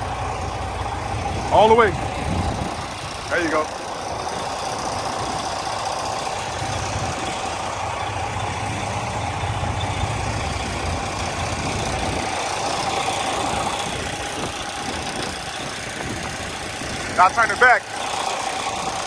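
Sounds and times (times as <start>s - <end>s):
truck diesel engine reversing: 0.0s - 19.0s.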